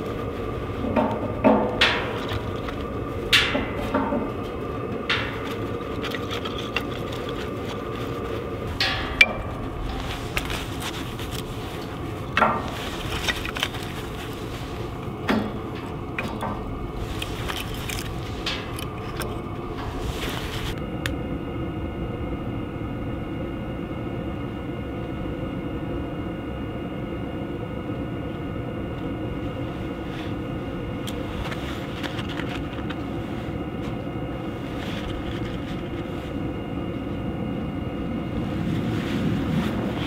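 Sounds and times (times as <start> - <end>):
engine and road noise drone: 0.0 - 40.0.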